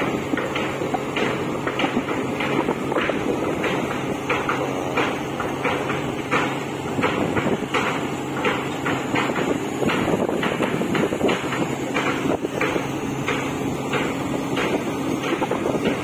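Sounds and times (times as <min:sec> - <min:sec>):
dredger engine running: 0:00.0 - 0:16.0
machinery knocking and clanking: 0:00.0 - 0:16.0.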